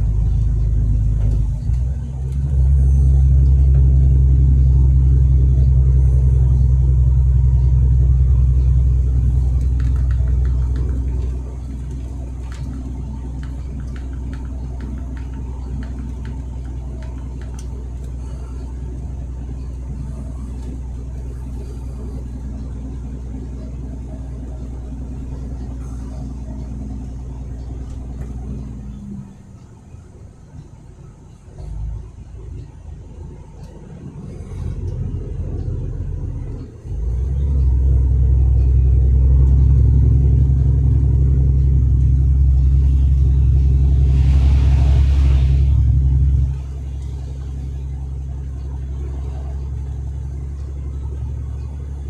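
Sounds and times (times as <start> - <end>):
truck engine droning: 0.0 - 52.0.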